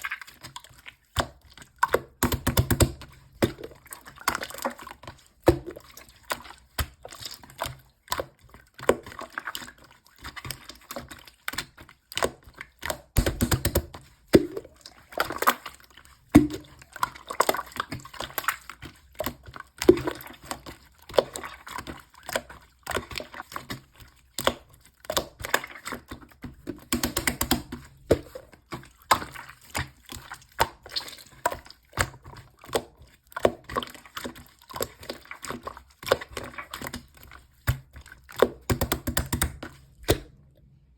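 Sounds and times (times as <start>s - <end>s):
slime squelches: 0.0s - 40.9s.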